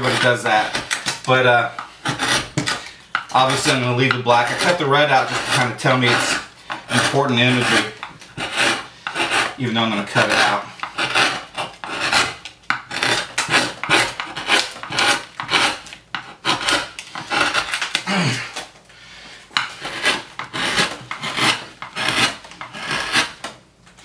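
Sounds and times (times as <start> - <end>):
gouge scraping wood: 0.0 - 18.0, 19.5 - 23.6.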